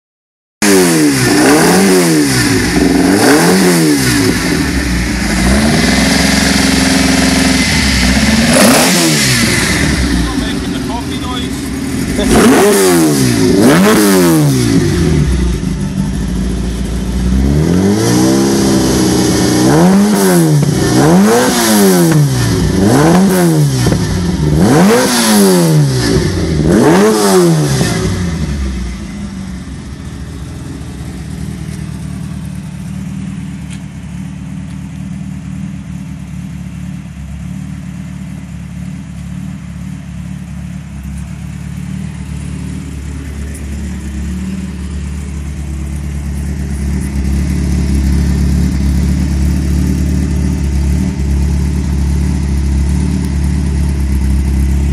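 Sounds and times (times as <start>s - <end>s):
race car engine revving: 0.6s - 33.6s, 39.1s - 54.9s
car engine idling: 2.3s - 54.9s.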